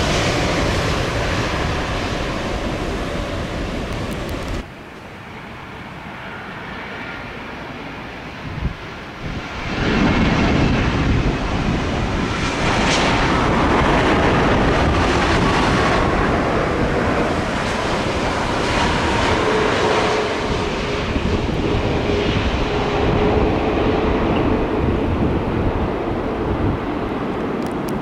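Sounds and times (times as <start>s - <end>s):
wind buffeting microphone: 0.0s - 4.7s, 8.3s - 28.0s
jet engines roaring: 0.0s - 28.0s.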